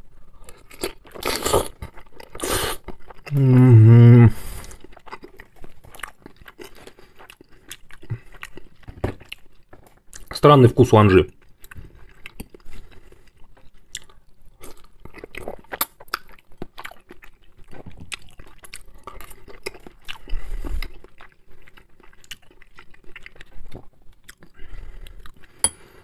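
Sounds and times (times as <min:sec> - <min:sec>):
person chewing food: 0:00.1 - 0:10.4, 0:11.3 - 0:26.0.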